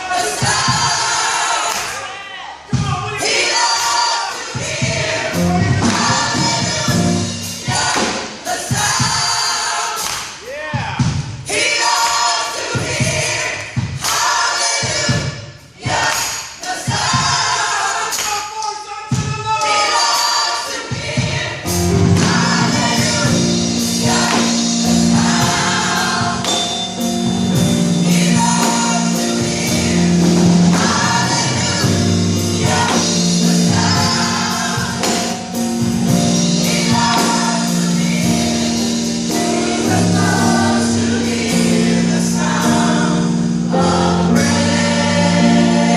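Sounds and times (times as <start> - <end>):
gospel choir singing: 0.0 - 45.9
sharp rhythmic strikes: 2.8 - 10.5, 11.1 - 45.9.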